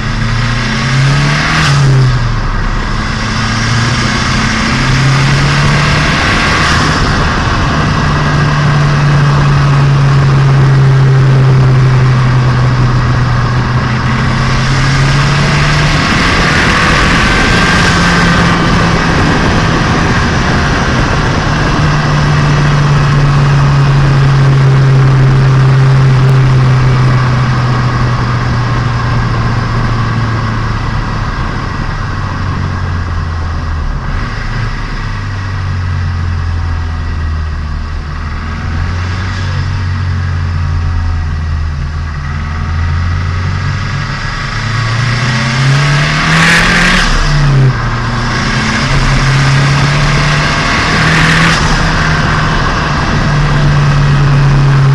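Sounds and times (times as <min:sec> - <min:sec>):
car engine and exhaust pulling: 0:00.0 - 0:54.9
road and wind noise: 0:00.0 - 0:54.9.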